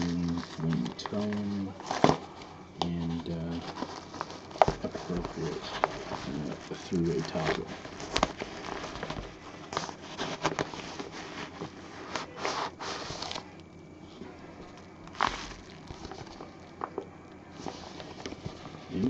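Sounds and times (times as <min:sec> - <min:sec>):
parcel packing rustling: 0:00.0 - 0:19.0.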